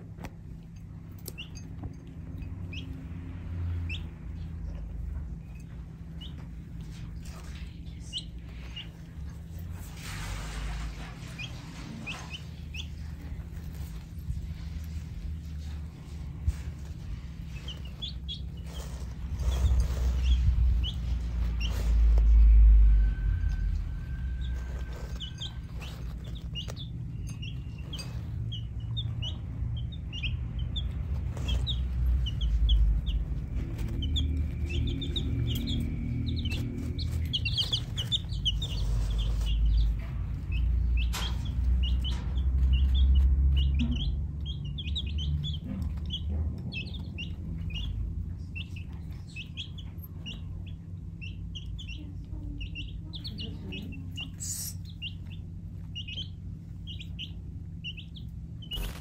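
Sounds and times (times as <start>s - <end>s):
baby chicks peeping: 0.0s - 59.0s
low rumble: 0.0s - 59.0s.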